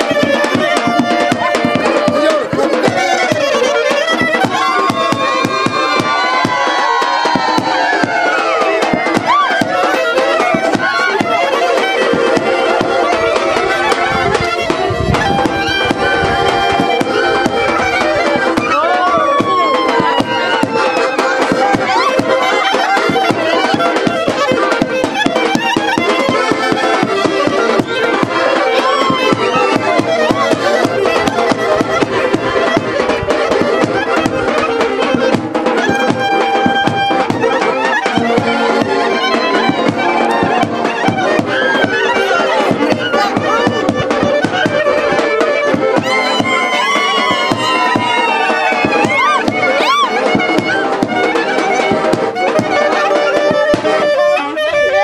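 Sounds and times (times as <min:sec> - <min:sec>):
folk dance music: 0:00.0 - 0:55.0.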